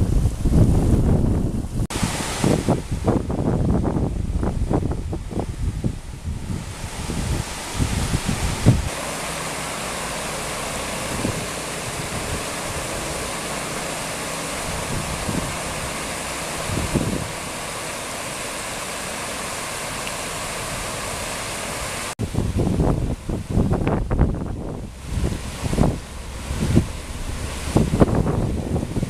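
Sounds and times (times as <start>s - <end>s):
floodwater rushing: 0.0s - 29.0s
wind gusts on microphone: 0.0s - 29.0s.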